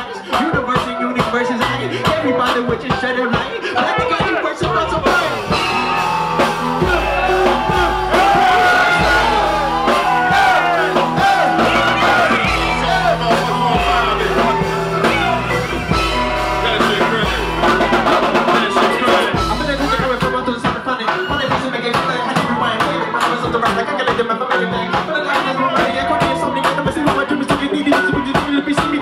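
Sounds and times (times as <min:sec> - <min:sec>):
man singing into microphone: 0:00.0 - 0:05.6, 0:06.8 - 0:15.6, 0:16.6 - 0:29.0
loud music with deep bass: 0:00.0 - 0:29.0.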